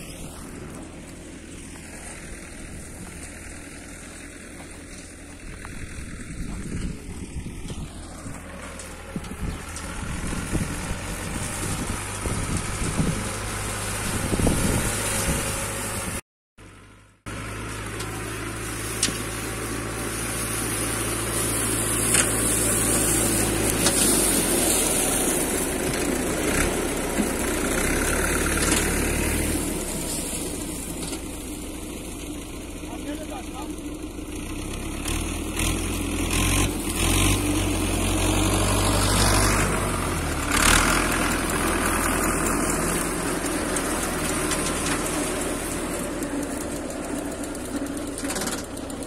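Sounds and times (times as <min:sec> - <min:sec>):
mower cutting grass: 0:00.0 - 0:49.0
tractor diesel engine running: 0:00.0 - 0:49.0.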